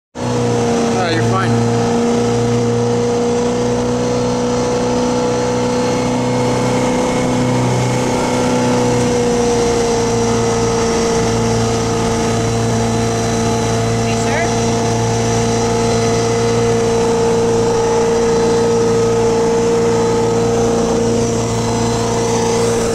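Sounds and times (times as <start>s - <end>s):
motorboat engine droning: 0.1s - 22.9s.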